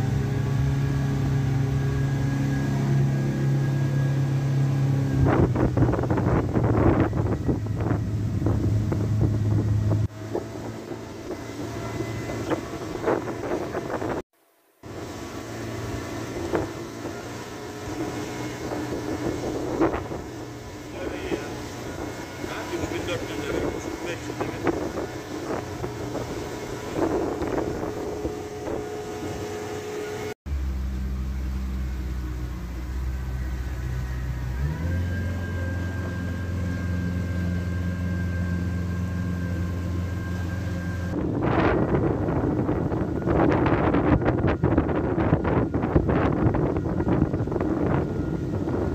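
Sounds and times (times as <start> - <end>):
wind on microphone: 0.0 - 14.2, 14.9 - 30.4, 34.7 - 48.9
outboard motor running: 0.0 - 48.9.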